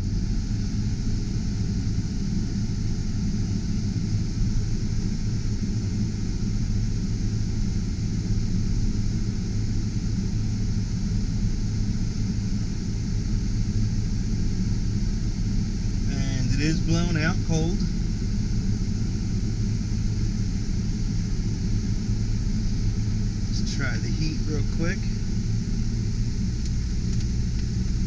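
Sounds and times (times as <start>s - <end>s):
air rushing from vents: 0.0s - 28.0s.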